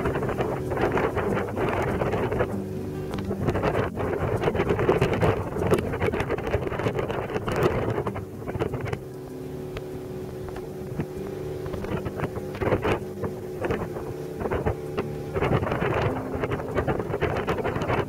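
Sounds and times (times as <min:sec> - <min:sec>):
motorboat engine running: 0:00.0 - 0:18.0
wind buffeting microphone: 0:00.0 - 0:18.0.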